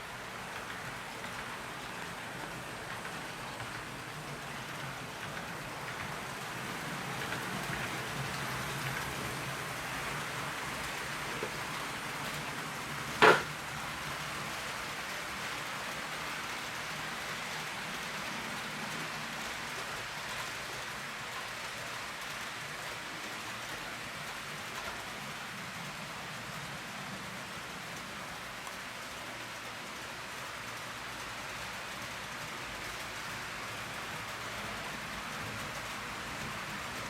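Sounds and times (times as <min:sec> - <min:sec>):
model train wheels on rails: 0:00.0 - 0:37.0.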